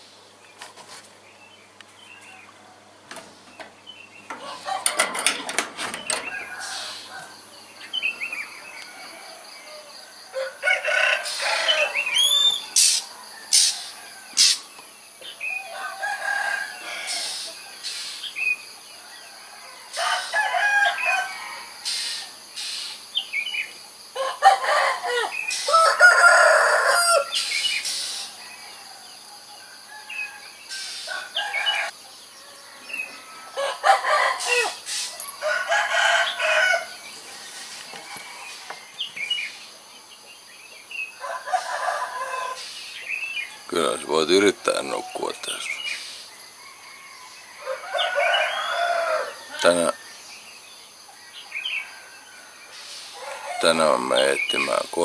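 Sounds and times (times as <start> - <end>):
birds chirping: 0.0 - 55.0
roosters crowing: 2.1 - 22.5, 24.0 - 39.9, 40.9 - 55.0.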